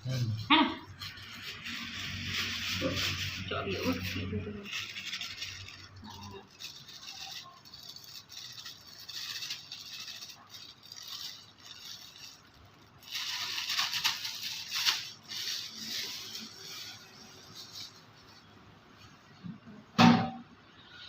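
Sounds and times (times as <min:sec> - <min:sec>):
small objects rattling and scraping: 0:00.0 - 0:18.5.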